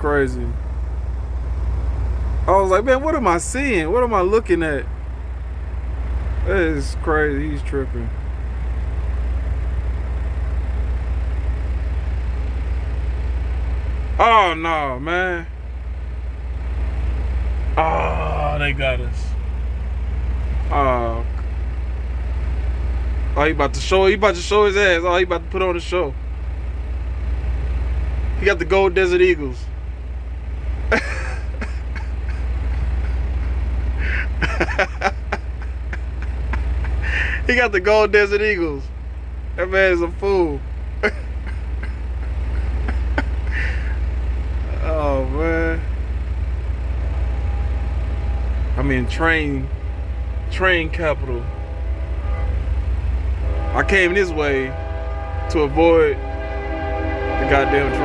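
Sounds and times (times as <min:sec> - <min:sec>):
truck diesel engine drone: 0:00.0 - 0:58.0.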